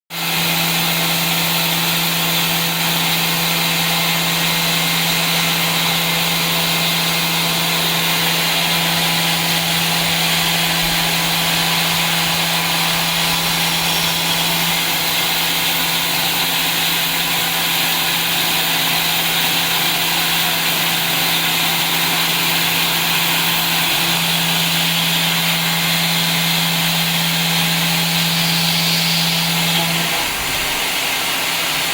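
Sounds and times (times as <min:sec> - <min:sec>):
cutting hiss: 0:04.4 - 0:31.9.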